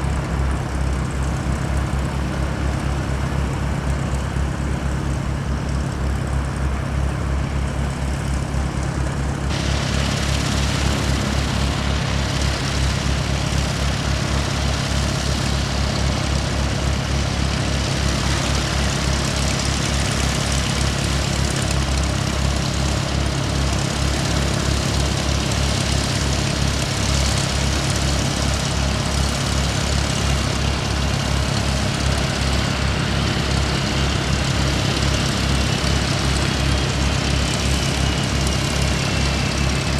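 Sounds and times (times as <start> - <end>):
aircraft engine rumble: 0.0 - 39.9.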